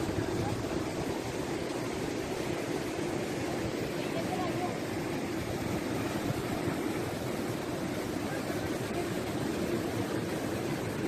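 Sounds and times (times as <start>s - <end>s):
river rushing over boulders: 0.0s - 11.0s.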